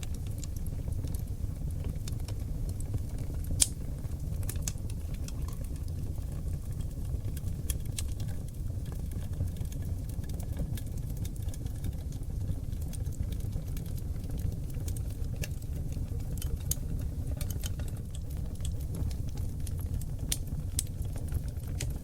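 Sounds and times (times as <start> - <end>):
fire crackles and pops: 0.0 - 22.0
fire flames rumbling: 0.0 - 22.0.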